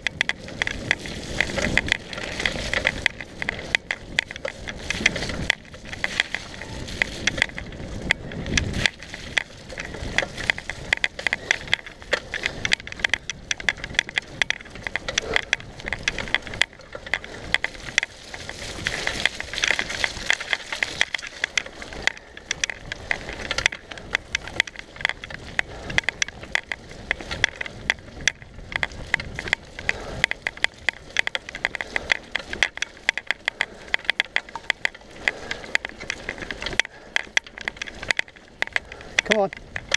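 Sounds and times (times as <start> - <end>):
mountain bike rattling on dirt trail: 0.0 - 39.9.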